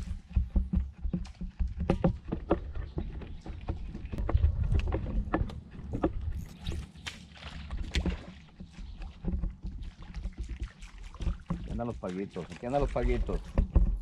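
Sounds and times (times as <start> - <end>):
light knocks and splashes of water: 0.0 - 14.0.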